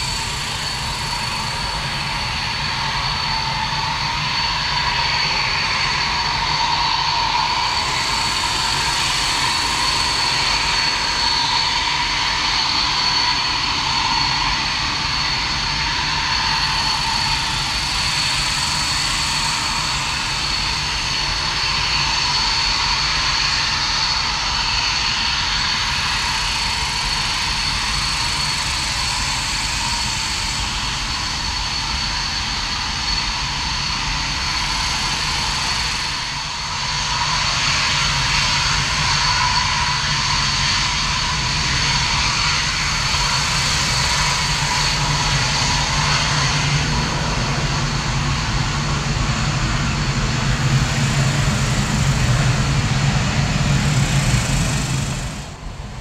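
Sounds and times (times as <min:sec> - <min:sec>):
jet engine whine and rush: 0:00.0 - 0:56.0.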